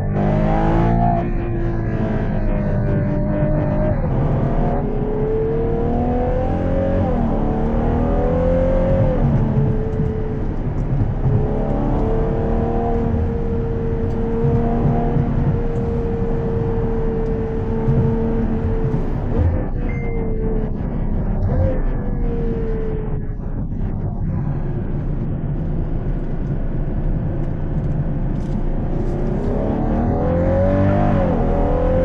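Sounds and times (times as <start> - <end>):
car engine revving in cabin: 0.0 - 32.0.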